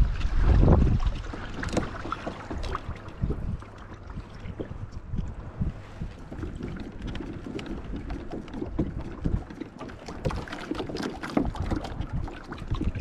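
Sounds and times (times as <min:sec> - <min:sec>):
water splashing against hull: 0:00.0 - 0:13.0
wind rumbling on microphone: 0:00.0 - 0:13.0.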